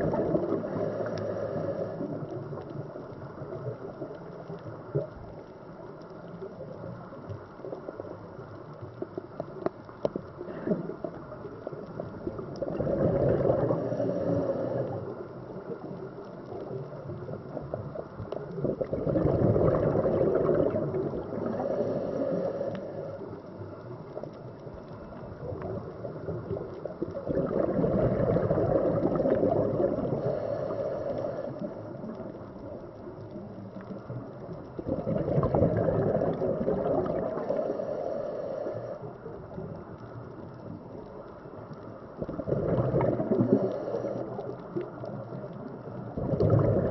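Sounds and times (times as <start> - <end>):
underwater bubbles gurgling: 0.0 - 46.9.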